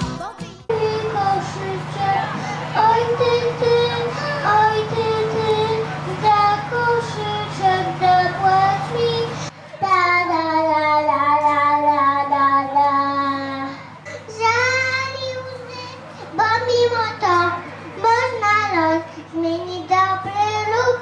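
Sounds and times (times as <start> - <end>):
girl singing into a microphone: 0.0 - 21.0.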